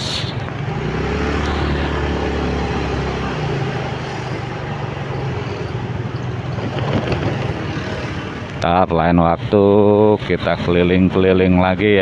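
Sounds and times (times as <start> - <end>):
motorcycle engine drone: 0.0 - 12.0
vehicles passing: 0.0 - 12.0
wind and road noise: 0.0 - 12.0.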